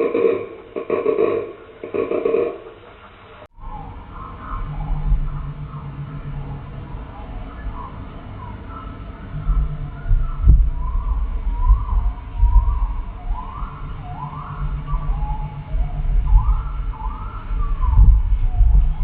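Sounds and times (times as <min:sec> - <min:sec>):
low throbbing rumble: 0:00.0 - 0:19.0
slowed down bird calls: 0:00.0 - 0:19.0.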